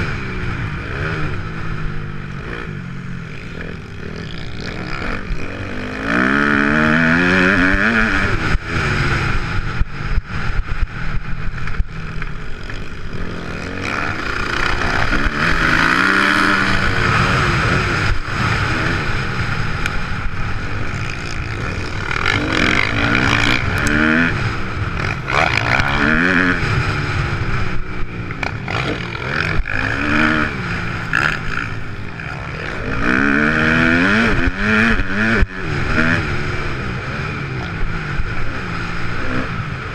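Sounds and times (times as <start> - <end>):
motocross engine running hard: 0.0 - 39.9.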